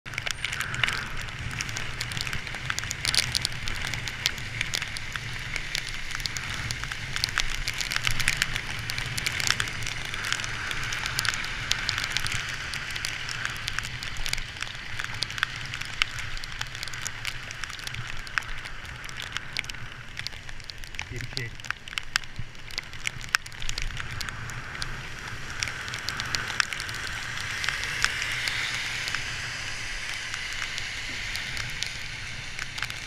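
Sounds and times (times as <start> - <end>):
raindrops hitting camera: 0.0 - 33.0
hiss from wet road: 0.1 - 33.0.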